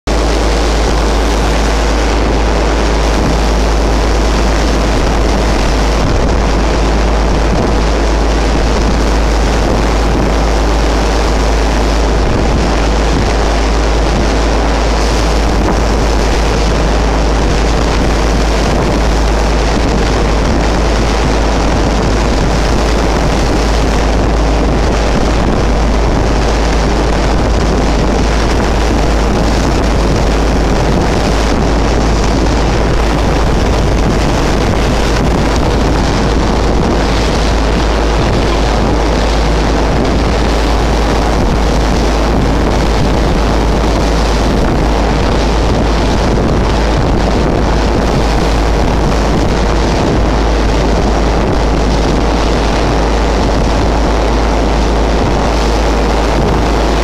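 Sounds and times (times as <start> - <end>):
motorboat engine drone: 0.0 - 57.0
sea rushing: 0.0 - 57.0
wind buffeting microphone: 0.0 - 57.0.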